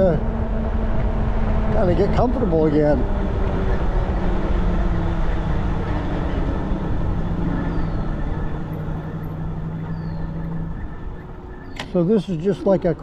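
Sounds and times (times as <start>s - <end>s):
low hub motor hum: 0.0s - 13.0s
wind and road noise: 0.0s - 13.0s.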